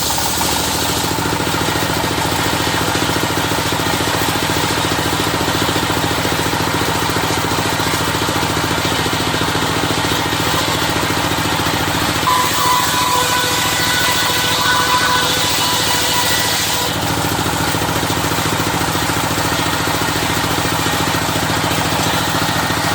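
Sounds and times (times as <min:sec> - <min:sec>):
sawmill engine running: 0:00.0 - 0:22.9.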